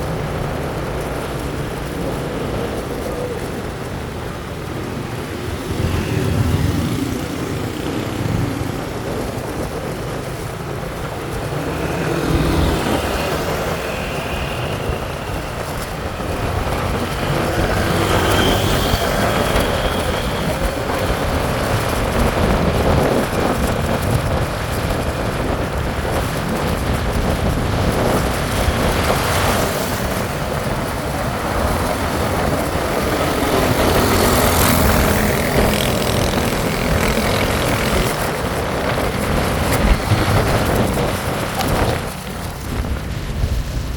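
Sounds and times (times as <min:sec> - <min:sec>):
motorcycle engine rumble: 0:00.0 - 0:43.9
road noise: 0:00.0 - 0:43.9
wind noise: 0:00.0 - 0:43.9.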